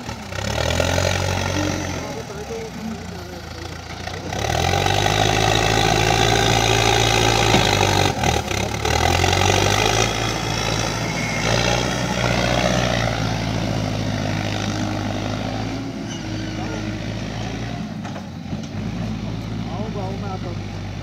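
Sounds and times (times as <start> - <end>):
diesel engine revving under load: 0.0 - 21.0.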